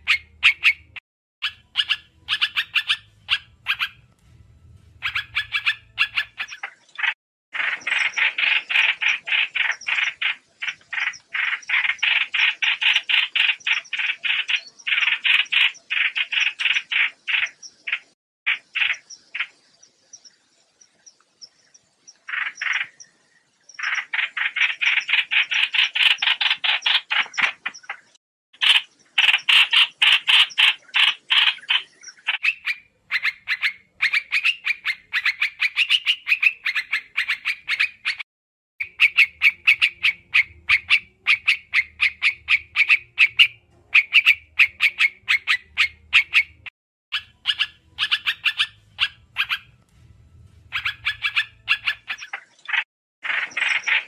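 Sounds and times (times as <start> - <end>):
bird chattering trills: 0.0 - 4.0, 5.0 - 19.6, 22.1 - 23.1, 23.8 - 38.2, 38.8 - 49.7, 50.7 - 54.0.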